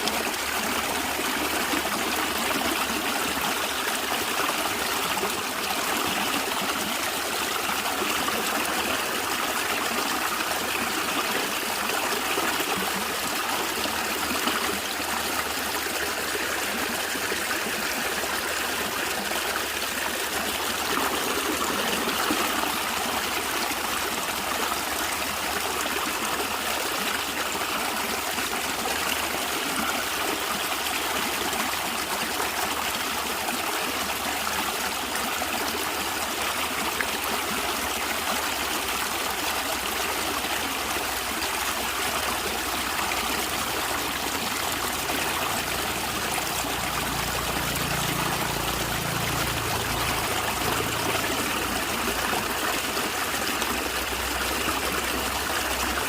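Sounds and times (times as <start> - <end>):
stream gurgling over stones: 0.0 - 56.0.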